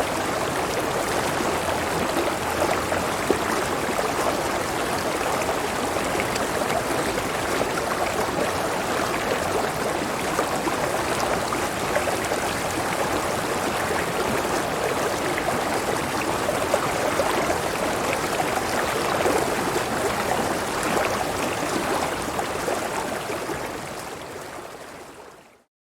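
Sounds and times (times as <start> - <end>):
flowing water: 0.0 - 25.7.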